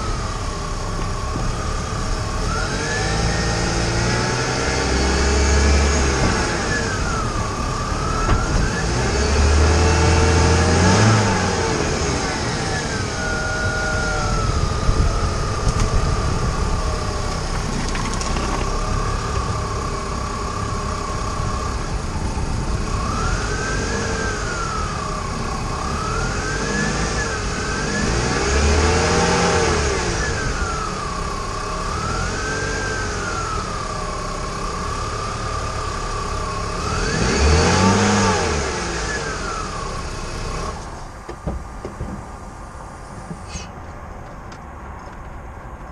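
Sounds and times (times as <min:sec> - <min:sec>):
tyre and road noise: 0:00.0 - 0:35.0, 0:36.1 - 0:45.9
car engine revving: 0:00.0 - 0:41.2.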